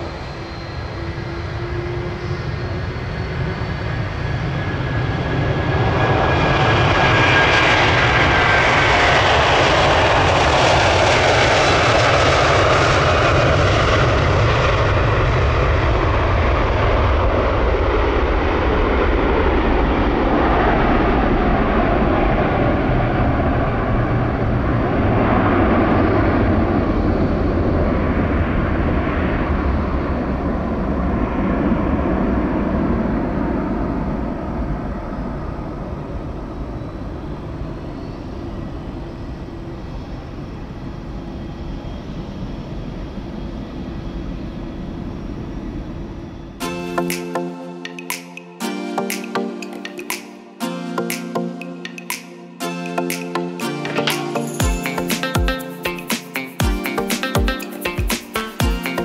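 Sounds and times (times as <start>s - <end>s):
descending engine whine: 0.0s - 47.8s
jet engines roaring: 0.0s - 59.0s.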